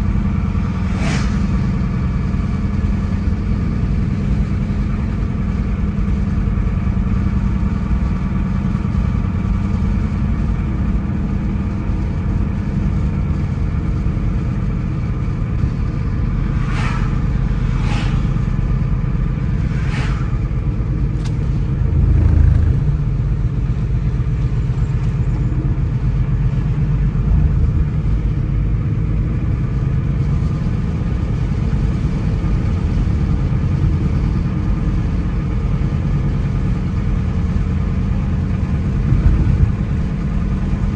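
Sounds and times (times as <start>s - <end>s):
car engine hum: 0.0s - 40.9s
road rumble: 0.0s - 40.9s.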